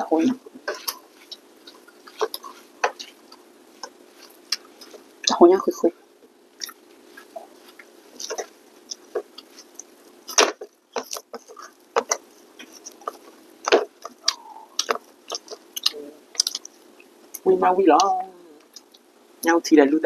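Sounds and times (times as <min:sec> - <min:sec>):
people chewing: 0:00.0 - 0:19.1
faint steady hum: 0:00.0 - 0:20.0.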